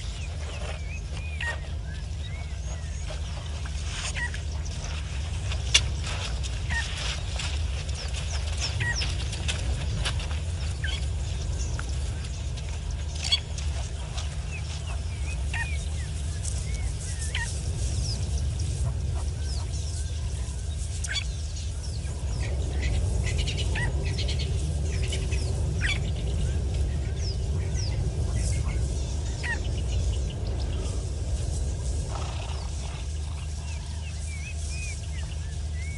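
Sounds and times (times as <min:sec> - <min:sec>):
birds chirping and calling: 0:00.0 - 0:35.9
steady low rumble: 0:00.0 - 0:35.9.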